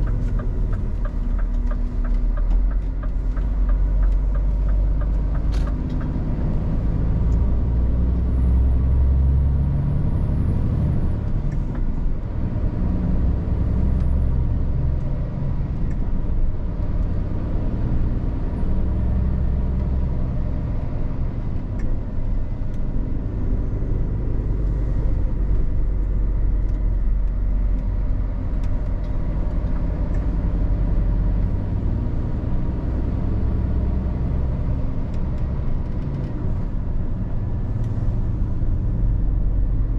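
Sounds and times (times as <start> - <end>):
road noise: 0.0 - 39.9
truck diesel engine rumbling: 0.0 - 39.9.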